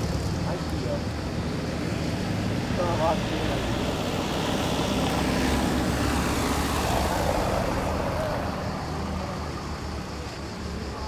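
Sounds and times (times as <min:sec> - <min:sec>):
motor vehicle passing: 0:00.0 - 0:10.4
low hum of traffic: 0:00.0 - 0:11.0.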